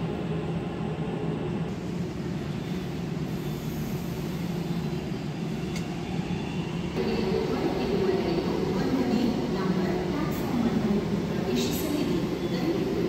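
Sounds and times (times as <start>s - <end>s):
low rumble of metro station: 0.0s - 13.0s.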